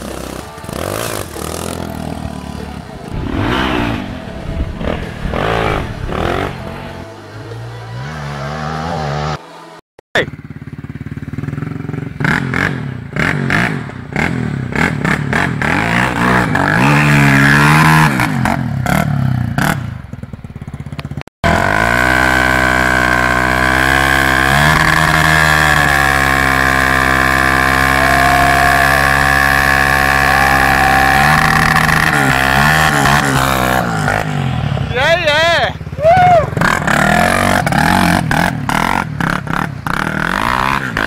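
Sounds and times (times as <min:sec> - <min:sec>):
dirt bike engine revving: 0:00.0 - 0:20.2, 0:21.4 - 0:41.0.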